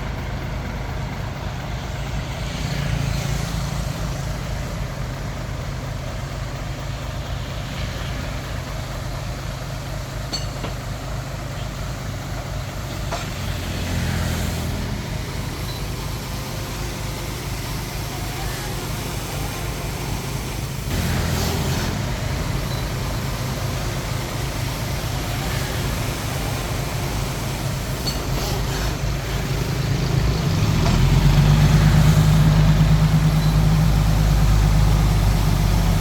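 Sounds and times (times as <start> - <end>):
bulldozer engine running: 0.0 - 36.0.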